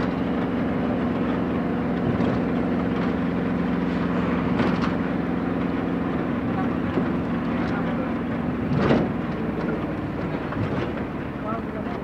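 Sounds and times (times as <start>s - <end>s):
tyre and road noise: 0.0s - 12.0s
vehicle engine hum: 0.0s - 12.0s.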